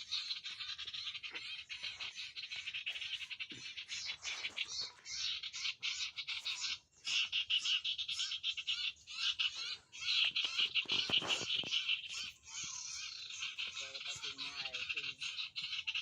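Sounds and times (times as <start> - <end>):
bird chattering song: 0.0 - 16.0.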